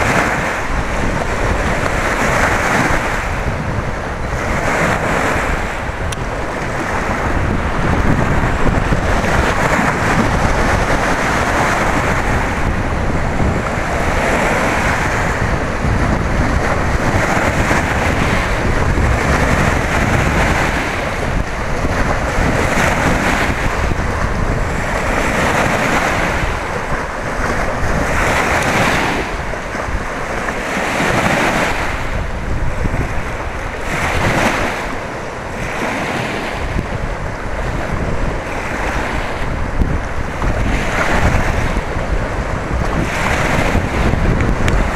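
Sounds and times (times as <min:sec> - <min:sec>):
waves splashing over rocky shore: 0:00.0 - 0:44.9
wind buffeting microphone: 0:00.0 - 0:44.9.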